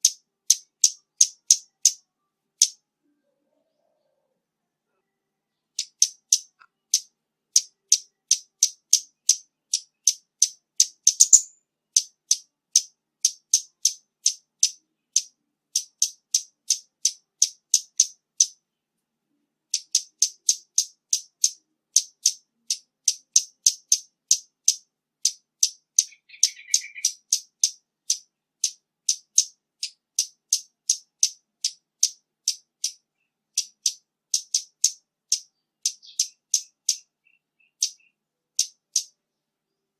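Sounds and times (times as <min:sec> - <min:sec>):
bird calling with sharp high ticks: 0:00.0 - 0:02.8, 0:05.7 - 0:18.6, 0:19.7 - 0:39.2.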